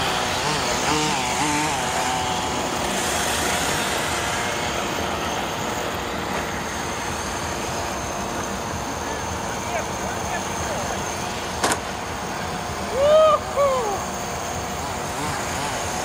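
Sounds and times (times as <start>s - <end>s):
model car motors buzzing: 0.0s - 13.0s, 13.8s - 16.0s.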